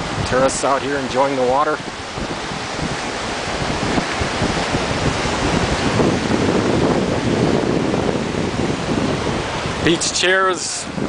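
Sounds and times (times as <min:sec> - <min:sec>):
ocean surf washing onto beach: 0:00.0 - 0:11.0
wind noise on microphone: 0:00.0 - 0:11.0.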